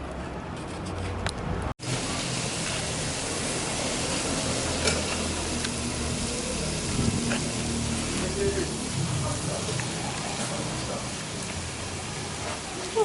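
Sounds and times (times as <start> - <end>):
food sizzling in a pot: 1.8 - 13.0.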